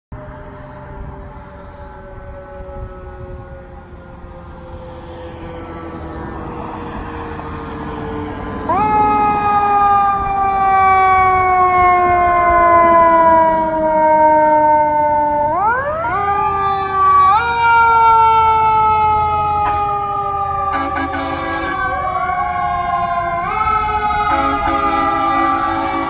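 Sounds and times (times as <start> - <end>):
emergency sirens: 0.1 - 26.0
louder higher siren: 0.1 - 26.0.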